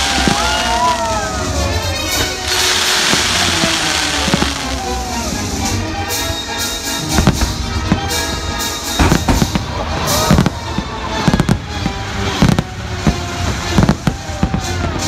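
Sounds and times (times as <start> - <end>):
fireworks bursting: 0.0 - 15.0
show music: 0.0 - 15.0.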